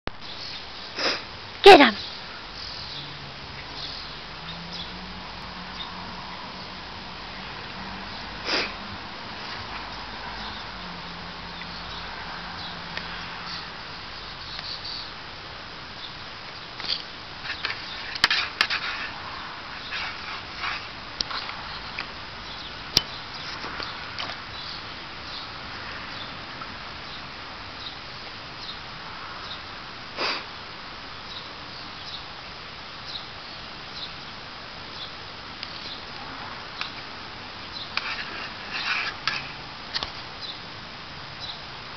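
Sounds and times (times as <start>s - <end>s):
steady background hiss: 0.1s - 41.9s.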